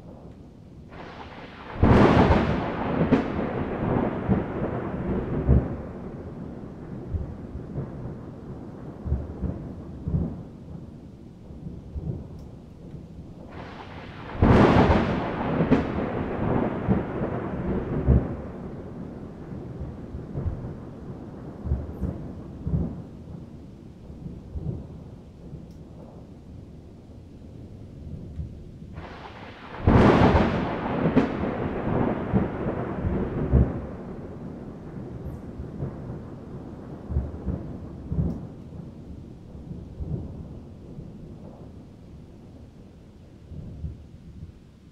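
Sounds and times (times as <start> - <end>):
thunder rumbling: 0.0 - 44.9.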